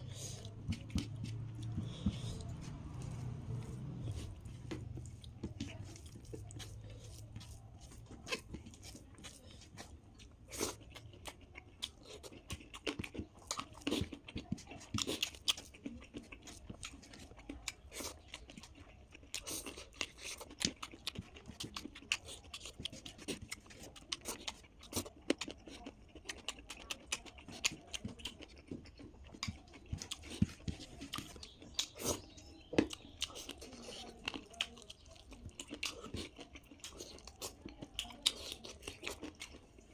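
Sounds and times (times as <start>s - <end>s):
close-up chewing sounds: 0.0s - 39.9s.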